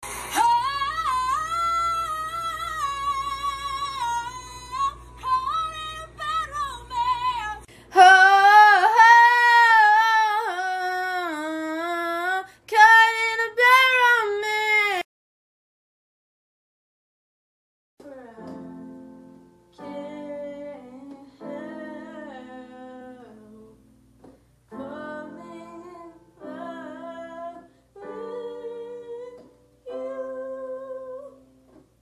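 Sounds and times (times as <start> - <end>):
woman singing unaccompanied: 0.4 - 15.0, 18.0 - 19.2, 19.8 - 23.9, 24.7 - 31.6.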